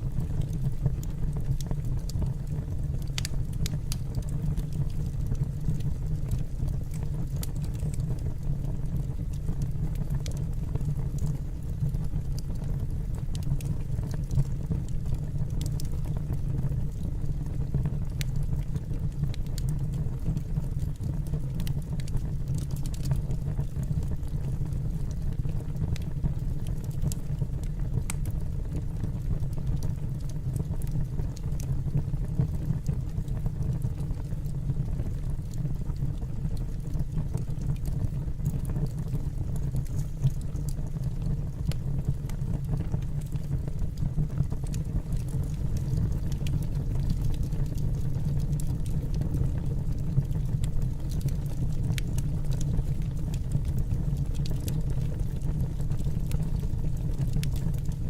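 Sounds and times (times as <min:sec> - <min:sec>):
fire crackling: 0:00.0 - 0:58.0
fire low rumble: 0:00.0 - 0:58.0.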